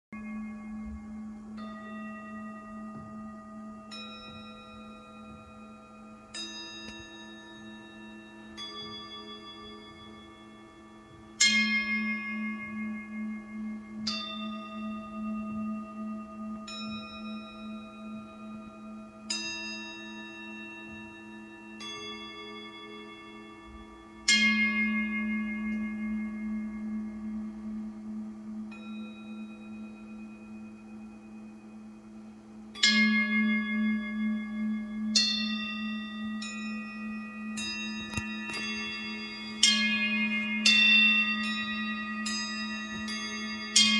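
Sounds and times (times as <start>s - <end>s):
low wavering hum: 0.1s - 43.9s
struck bell tones: 0.1s - 43.9s.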